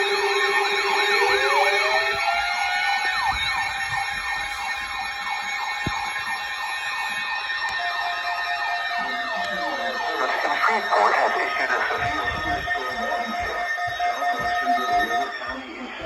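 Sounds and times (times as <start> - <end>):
siren wail: 0.0 - 15.7
siren yelp: 0.0 - 15.8.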